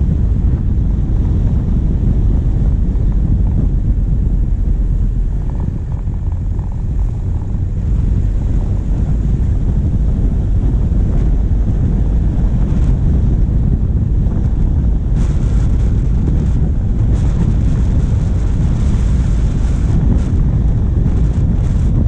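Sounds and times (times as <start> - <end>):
diesel engine running: 0.0 - 22.0
wind rumbling on microphone: 0.0 - 22.0.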